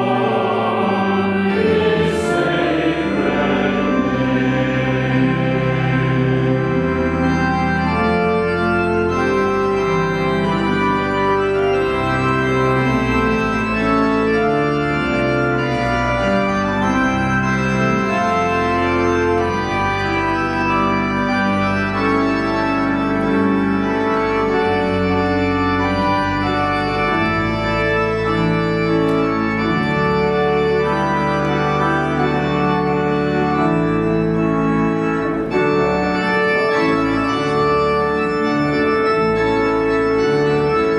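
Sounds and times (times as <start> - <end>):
organ chords: 0.0 - 40.9.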